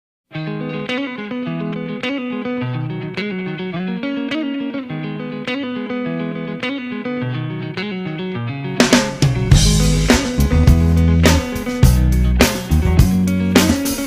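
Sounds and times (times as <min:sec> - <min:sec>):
plucked guitar pattern: 0:00.3 - 0:14.0.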